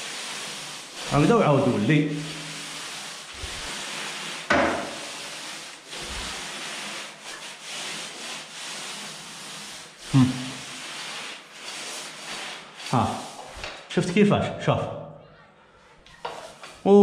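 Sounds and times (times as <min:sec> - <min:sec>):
paint roller swishing on wall: 0:00.0 - 0:14.3, 0:15.8 - 0:17.0.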